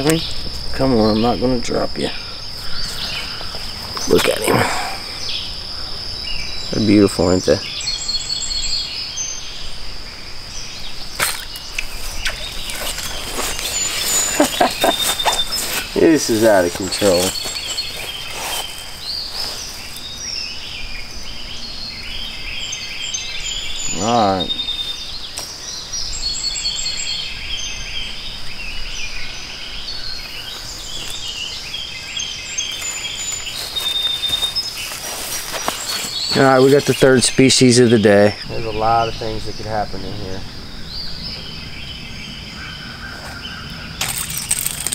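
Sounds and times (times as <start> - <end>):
background hiss: 0.0 - 42.8
birds chirping: 0.0 - 44.9
high insect drone: 0.0 - 44.9.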